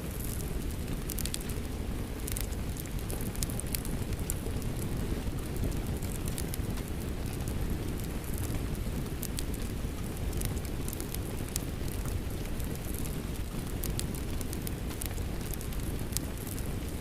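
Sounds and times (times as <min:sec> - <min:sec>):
fireplace wood crackling: 0:00.0 - 0:17.0
steady rain: 0:00.0 - 0:17.0.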